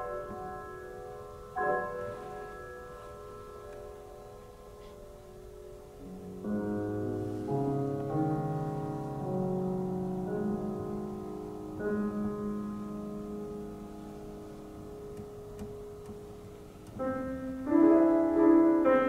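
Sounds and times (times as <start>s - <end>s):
grand piano playing slowly: 0.0s - 19.0s.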